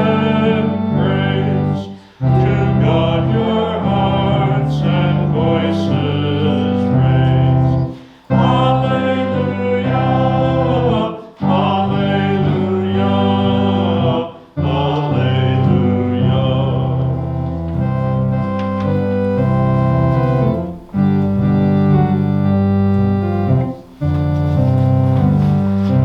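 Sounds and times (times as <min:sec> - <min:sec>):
congregation singing a hymn: 0:00.0 - 0:26.0
organ accompaniment: 0:00.0 - 0:26.0.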